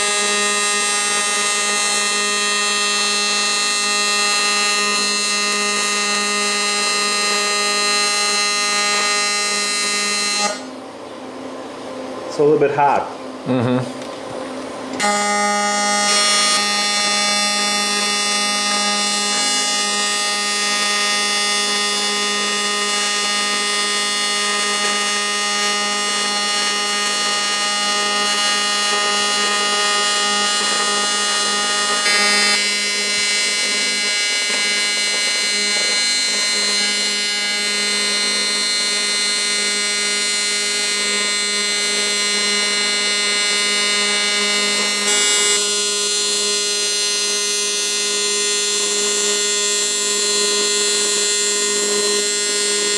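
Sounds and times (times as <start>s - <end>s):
welding arc buzzing: 0.0s - 10.9s, 14.9s - 52.9s.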